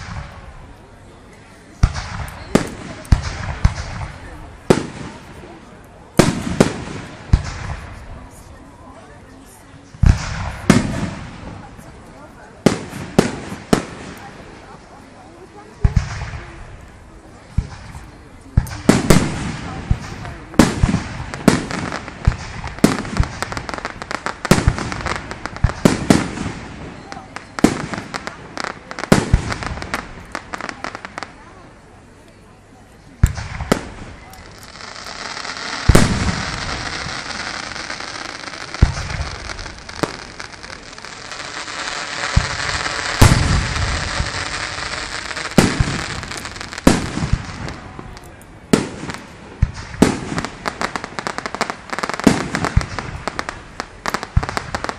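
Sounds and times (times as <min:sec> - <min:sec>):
fireworks bangs and cracks: 0:00.0 - 0:00.9, 0:01.6 - 0:09.0, 0:09.8 - 0:31.6, 0:33.2 - 0:54.9.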